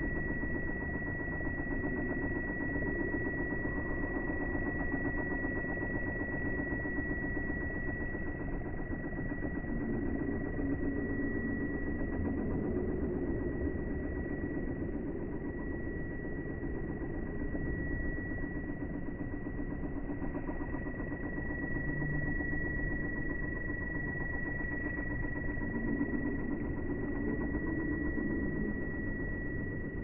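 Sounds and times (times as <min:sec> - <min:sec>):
small electric motor buzzing: 0:00.0 - 0:30.0.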